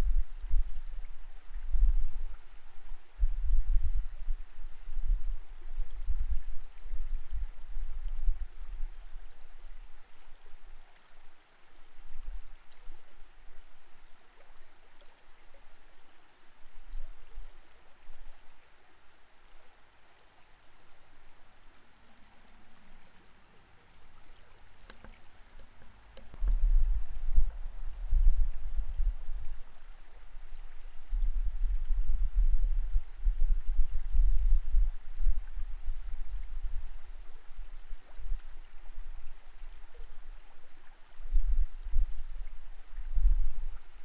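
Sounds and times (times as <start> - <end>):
faint ticks: 0.0 - 44.0
muffled underwater creek current: 0.0 - 44.0.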